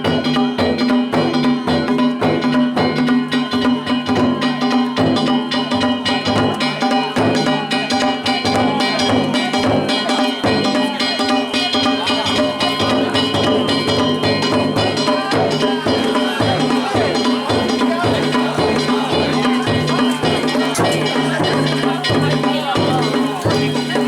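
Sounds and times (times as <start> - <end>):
metal gongs clanging: 0.0 - 24.0
taiko drums beating: 0.0 - 24.0.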